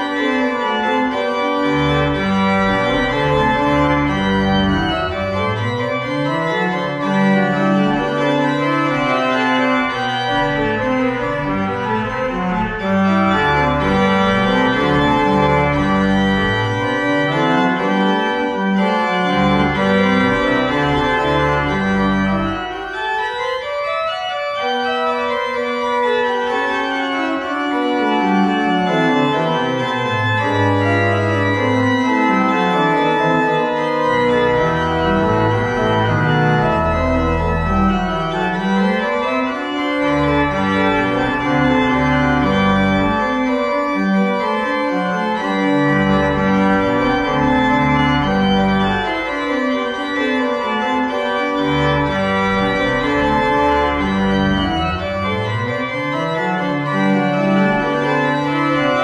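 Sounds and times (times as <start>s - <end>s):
church organ playing: 0.0s - 59.0s.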